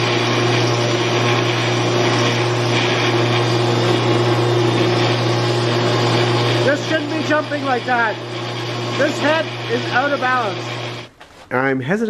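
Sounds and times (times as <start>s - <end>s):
jointer humming with hiss: 0.0s - 11.1s.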